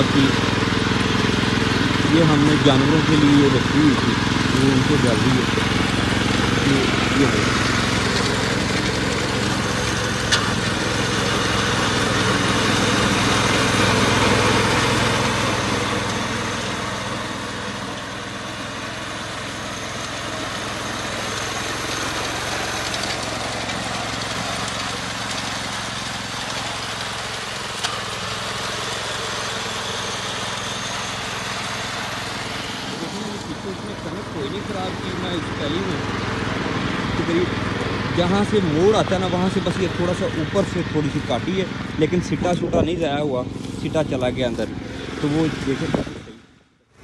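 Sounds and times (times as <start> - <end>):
small tractor engine running: 0.0 - 47.0.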